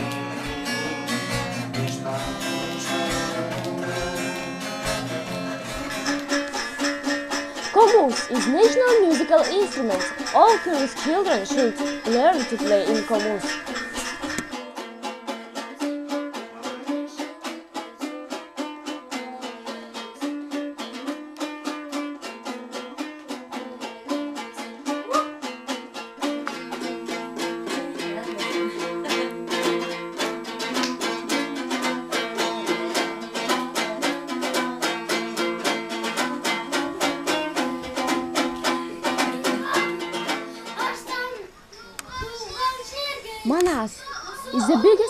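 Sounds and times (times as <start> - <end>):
lute strummed fast: 0.0 - 41.4.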